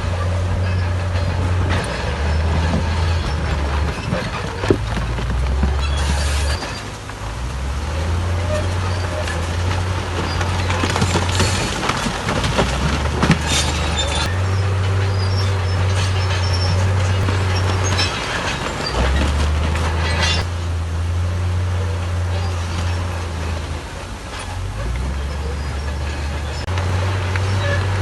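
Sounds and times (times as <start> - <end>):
bulldozer diesel engine under load: 0.0 - 28.0
tracks clanking and squealing: 0.0 - 28.0.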